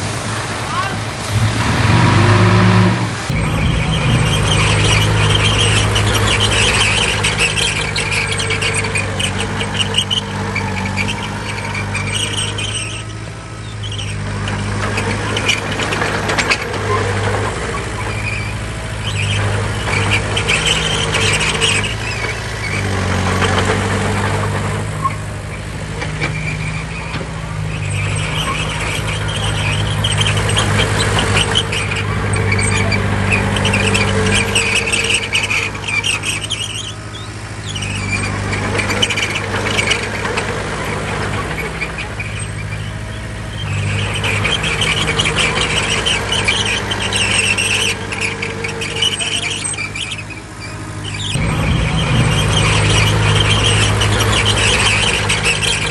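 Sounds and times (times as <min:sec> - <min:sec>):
bulldozer diesel engine running: 0:00.0 - 0:55.9
high-pitched track squealing: 0:00.7 - 0:55.9.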